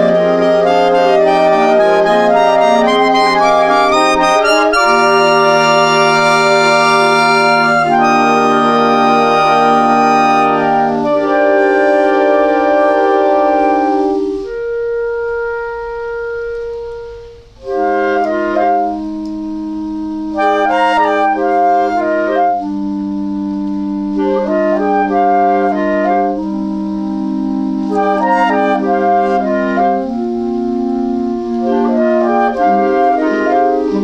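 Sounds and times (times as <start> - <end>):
layered clarinet music: 0.0 - 34.0.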